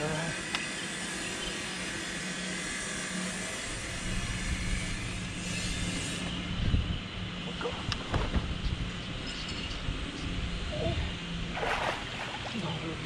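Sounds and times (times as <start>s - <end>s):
outdoor noise: 0.0s - 13.0s
steady low hum: 0.0s - 13.0s.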